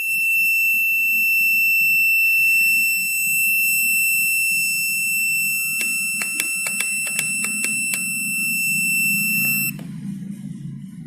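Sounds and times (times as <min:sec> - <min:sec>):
high-pitched buzzer tone: 0:00.0 - 0:09.8.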